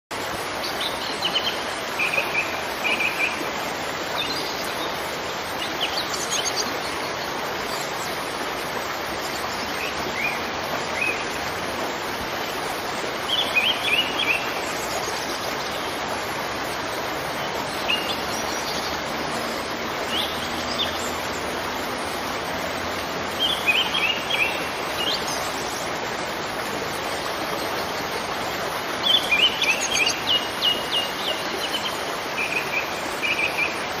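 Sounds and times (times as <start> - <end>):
steady rushing hiss: 0.2 - 33.2
birds chirping: 0.6 - 34.0.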